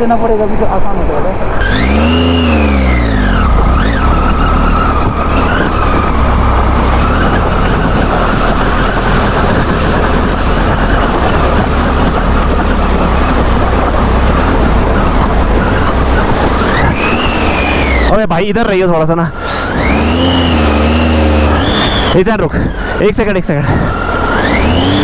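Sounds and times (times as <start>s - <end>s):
motorcycle engine running: 1.5s - 25.0s.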